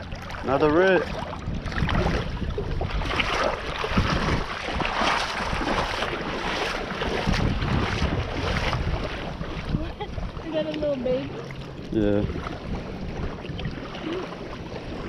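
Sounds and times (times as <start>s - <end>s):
waves and water: 0.0s - 15.0s
wind buffeting microphone: 0.0s - 15.0s.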